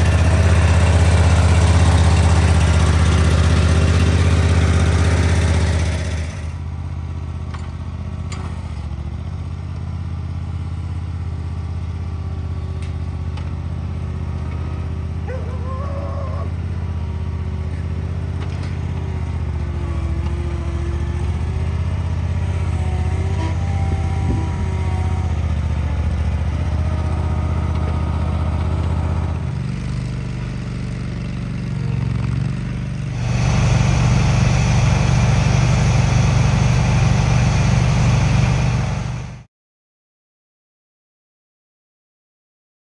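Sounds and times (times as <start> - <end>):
garden tractor engine running: 0.0 - 39.4
loud rough engine: 0.0 - 39.5.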